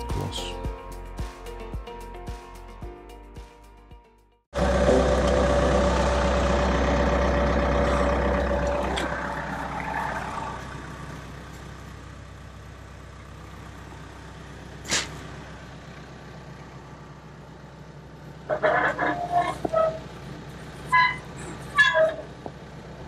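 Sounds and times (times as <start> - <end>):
loader engine running: 4.5 - 23.0.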